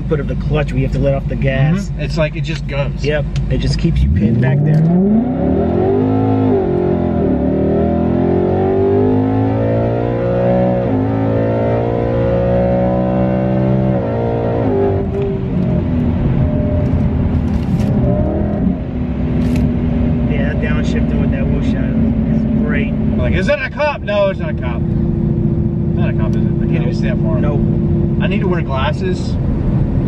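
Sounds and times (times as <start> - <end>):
car engine at full throttle: 0.0 - 30.0.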